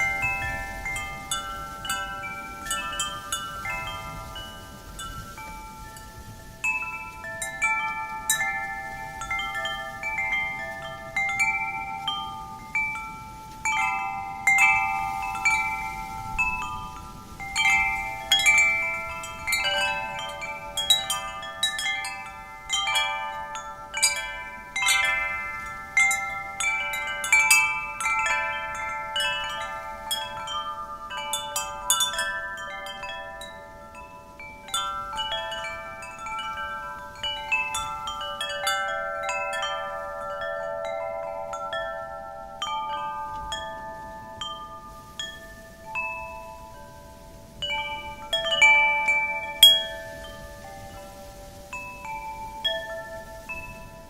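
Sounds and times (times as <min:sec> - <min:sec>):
wind chimes jangling: 0:00.0 - 0:54.0.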